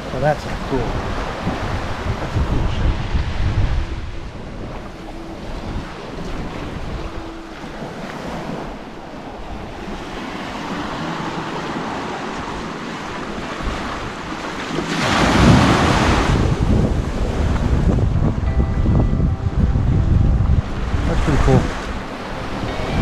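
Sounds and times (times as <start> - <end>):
waves washing on sand: 0.0 - 23.0
wind buffeting microphone: 0.0 - 23.0.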